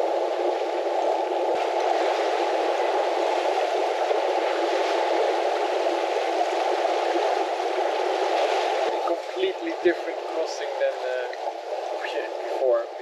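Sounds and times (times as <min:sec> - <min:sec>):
sea noise: 0:00.0 - 0:13.0.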